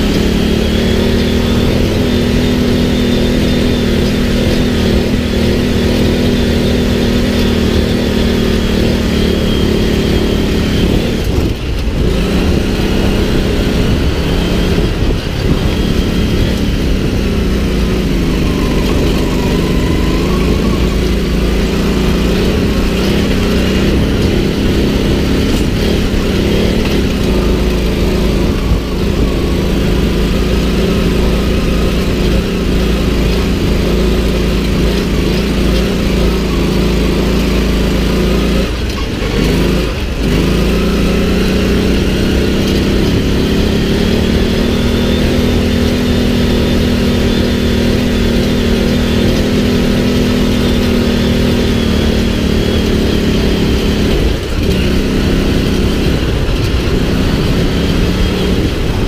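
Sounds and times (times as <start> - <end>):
buggy engine running hard: 0.0 - 59.0.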